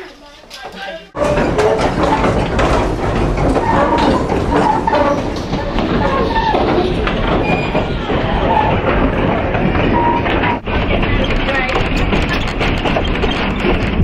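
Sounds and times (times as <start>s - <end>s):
wheel clatter: 0.0s - 14.0s
train wheels rumbling on rails: 1.2s - 14.0s.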